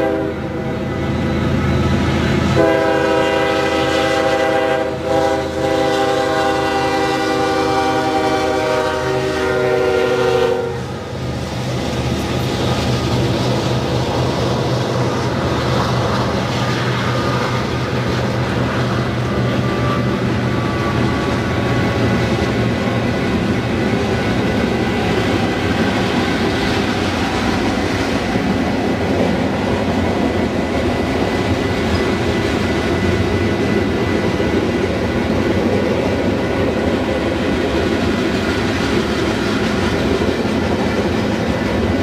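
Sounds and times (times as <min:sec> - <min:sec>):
freight train rumbling past: 0:00.0 - 0:42.0.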